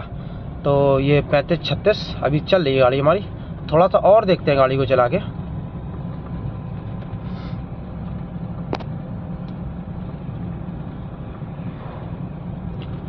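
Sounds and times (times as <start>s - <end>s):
diesel engine and road noise: 0.0s - 13.0s.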